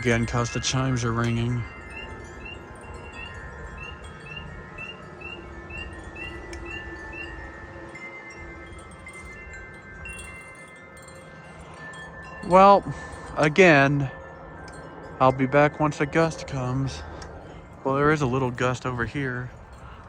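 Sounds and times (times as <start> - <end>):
wind chimes ringing: 0.0 - 20.0.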